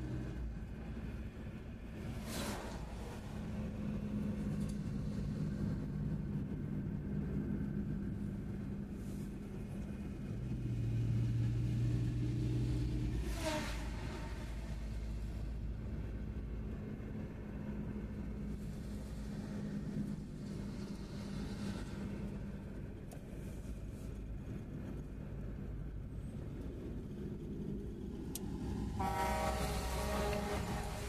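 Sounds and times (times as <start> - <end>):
car engine and tyre hum: 0.0 - 31.0.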